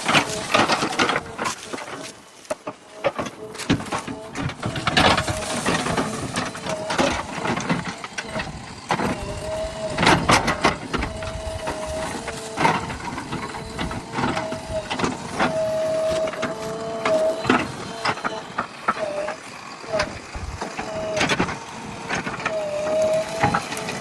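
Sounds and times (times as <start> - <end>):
backhoe engine: 0.0 - 24.0
hydraulic whining tone: 0.0 - 24.0.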